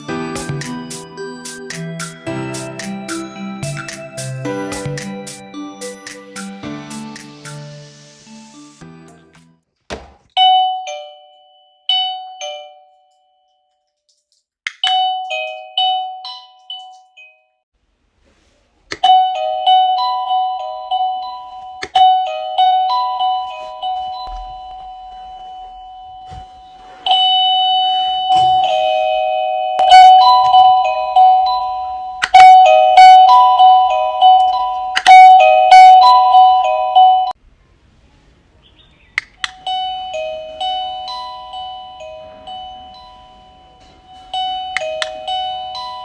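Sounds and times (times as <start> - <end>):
electronic doorbell chime tunes: 0.0 - 6.5, 10.4 - 13.8, 14.9 - 17.6, 19.0 - 37.4, 39.4 - 46.0.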